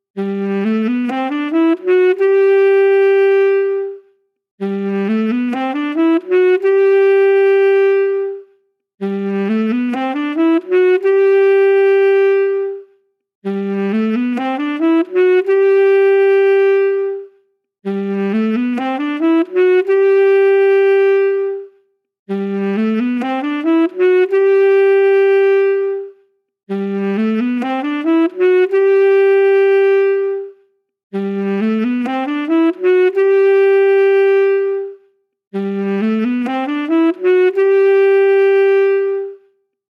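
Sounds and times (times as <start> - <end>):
solo saxophone phrase: 0.2 - 39.6.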